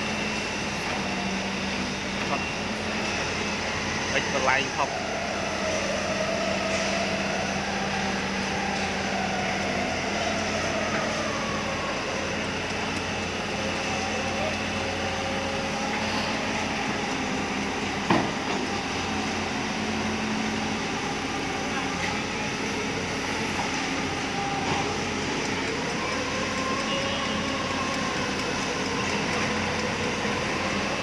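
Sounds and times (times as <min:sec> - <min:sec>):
excavator diesel engines: 0:00.0 - 0:31.0
hydraulic whine: 0:00.0 - 0:31.0.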